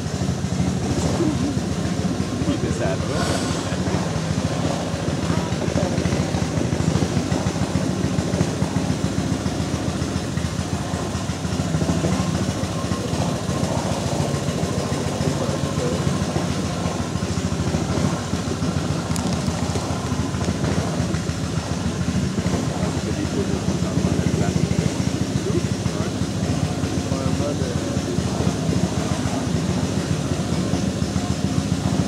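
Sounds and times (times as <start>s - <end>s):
small boat motor running: 0.0s - 32.0s.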